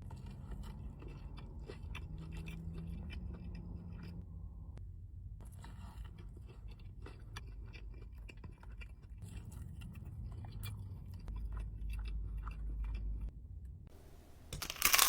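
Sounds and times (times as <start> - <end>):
chewing with small crunches: 0.0 - 13.4.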